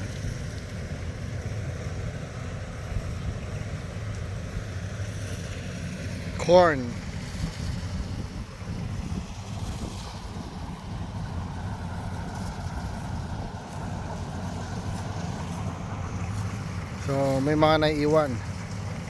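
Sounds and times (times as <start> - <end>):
harvester engine drone: 0.0 - 19.0.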